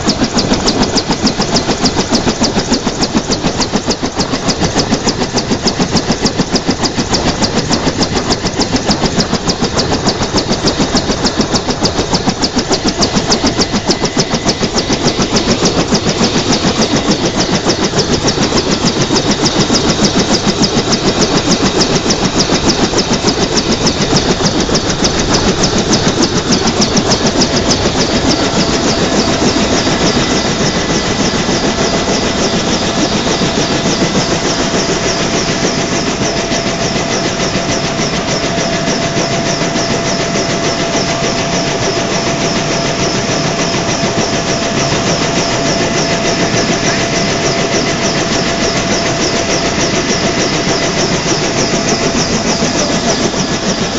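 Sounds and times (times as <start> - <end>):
helicopter rotor blade beat: 0.0 - 53.9
turbine whine: 0.0 - 53.9.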